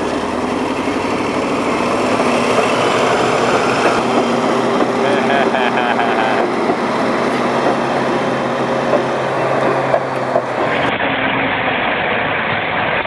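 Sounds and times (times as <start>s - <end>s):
heavy vehicle engine running: 0.0s - 13.0s
rough noisy engine: 0.0s - 13.0s.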